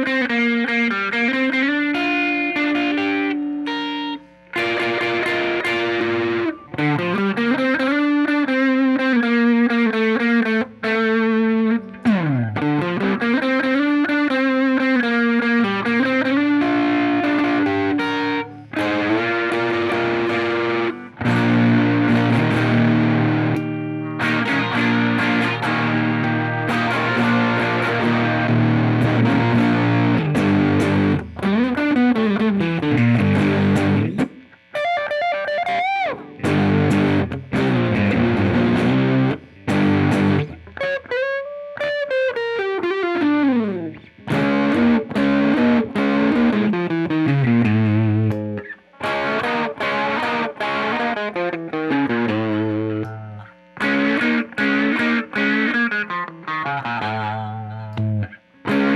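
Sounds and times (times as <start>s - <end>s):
guitar pitch bends: 0.0s - 58.9s
overdriven electric guitar chords: 0.0s - 58.9s.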